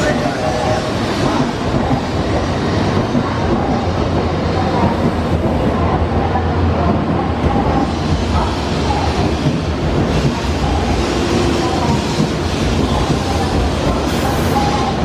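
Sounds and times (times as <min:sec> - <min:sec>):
train carriages rumbling past: 0:00.0 - 0:15.0.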